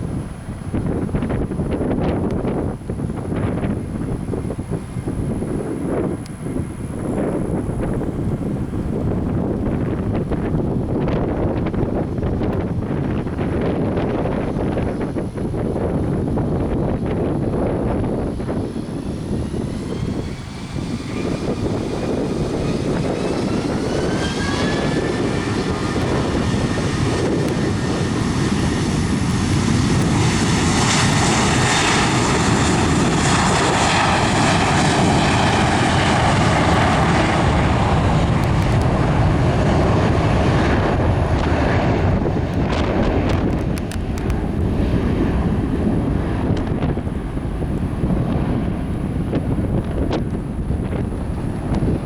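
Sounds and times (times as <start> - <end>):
jet engines spooling up: 0.0 - 52.0.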